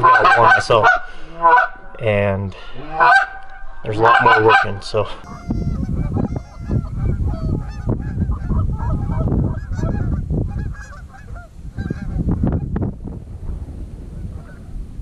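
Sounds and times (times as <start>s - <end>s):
geese honking: 0.0s - 12.8s
wind rumble on microphone: 2.8s - 15.0s.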